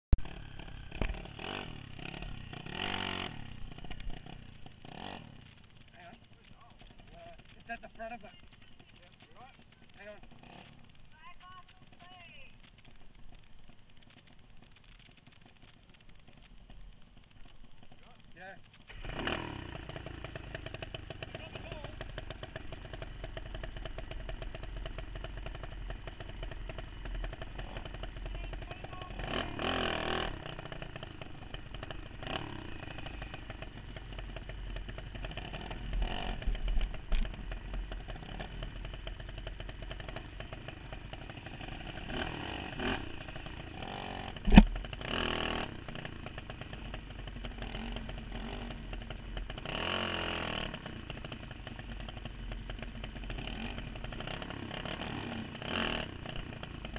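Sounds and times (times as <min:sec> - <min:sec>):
go-kart engine running: 0:00.2 - 0:56.9.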